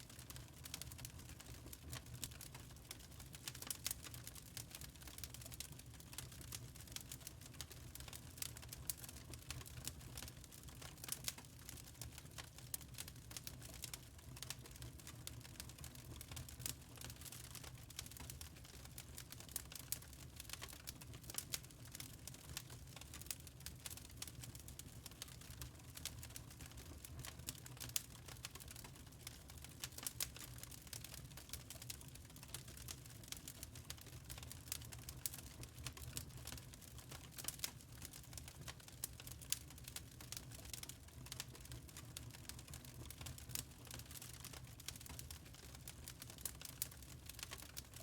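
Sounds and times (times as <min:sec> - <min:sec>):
low rumble of burning: 0:00.0 - 0:48.0
fire crackling and popping: 0:00.1 - 0:48.0.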